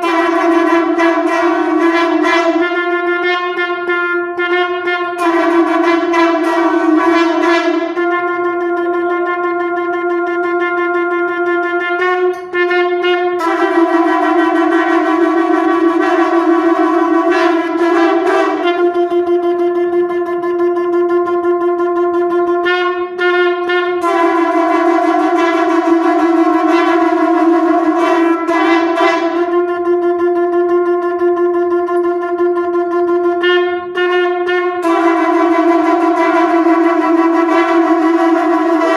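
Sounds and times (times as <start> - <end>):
conch shells blown together: 0.0 - 38.9.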